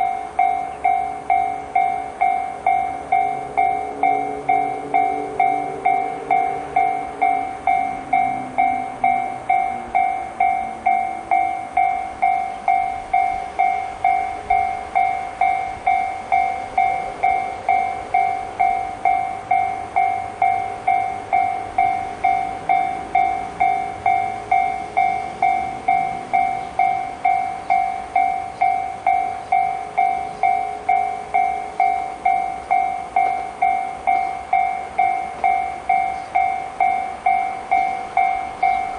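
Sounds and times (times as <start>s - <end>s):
level crossing alarm dinging: 0.0s - 38.9s.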